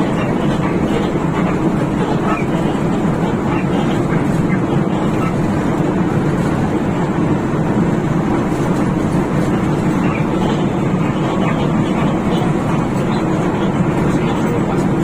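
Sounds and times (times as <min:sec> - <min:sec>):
bus diesel engine drone: 0:00.0 - 0:15.0
road noise: 0:00.0 - 0:15.0.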